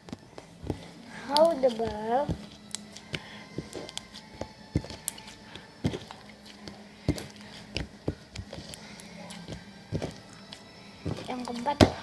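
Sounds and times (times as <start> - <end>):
hands squeezing sticky slime: 1.2 - 11.7.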